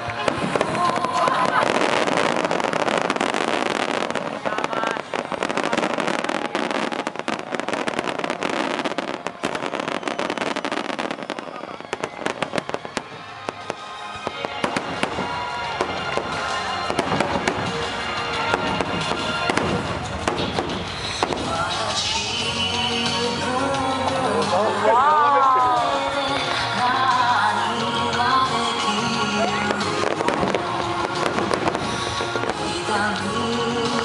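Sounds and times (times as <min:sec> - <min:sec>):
firework crackling: 0:00.0 - 0:34.0
music with held notes: 0:05.0 - 0:34.0.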